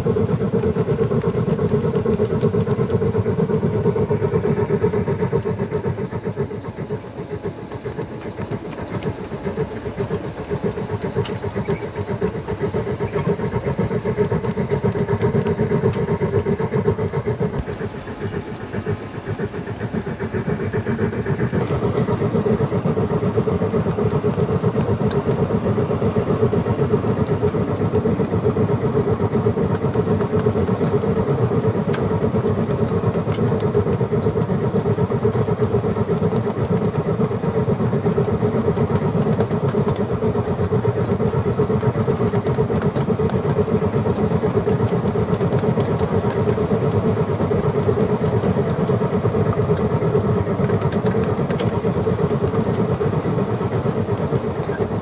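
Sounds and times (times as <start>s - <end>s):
model train motor hum: 0.0s - 55.0s
wheels clicking on rails: 0.0s - 55.0s.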